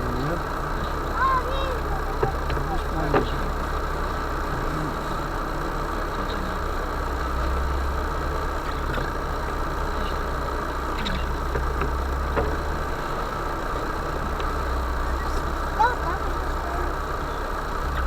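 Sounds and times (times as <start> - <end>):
van engine running: 0.0 - 18.0.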